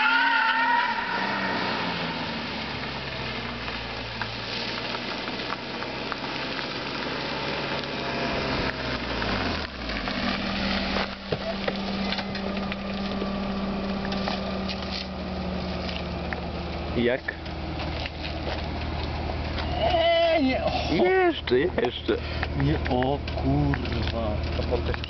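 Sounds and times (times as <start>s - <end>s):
car engine running: 0.0s - 25.0s
crackling hiss: 0.0s - 25.0s.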